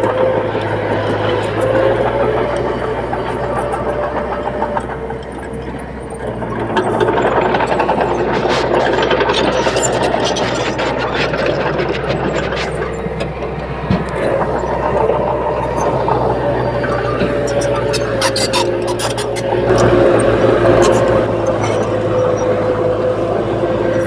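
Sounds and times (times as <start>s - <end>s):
bulldozer diesel engine: 0.0s - 24.0s.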